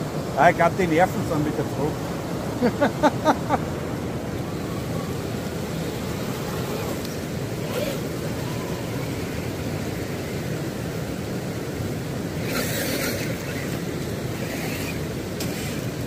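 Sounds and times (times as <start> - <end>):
river flowing: 0.0 - 16.0.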